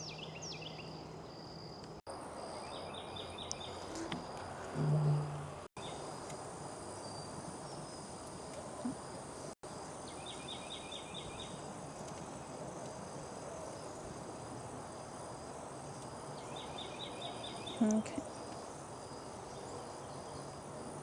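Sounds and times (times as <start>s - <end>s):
insect chirps: 0.0s - 21.0s
insects droning: 0.0s - 21.0s.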